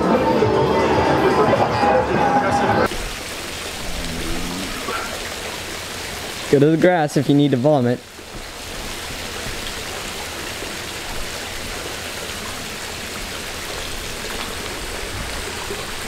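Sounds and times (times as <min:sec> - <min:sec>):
splashing water hiss: 0:02.9 - 0:16.0.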